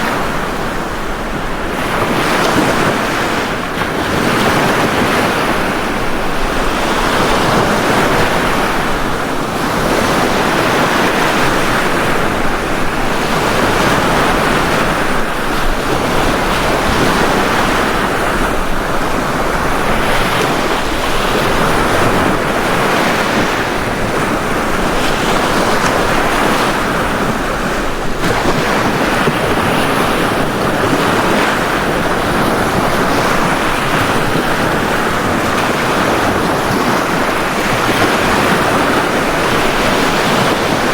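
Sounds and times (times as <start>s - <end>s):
ocean surf washing onto beach: 0.0s - 40.9s.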